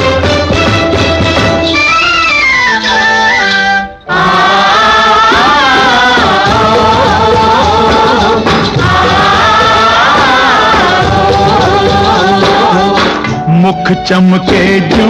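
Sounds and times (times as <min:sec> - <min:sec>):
orchestral film music: 0:00.0 - 0:15.0.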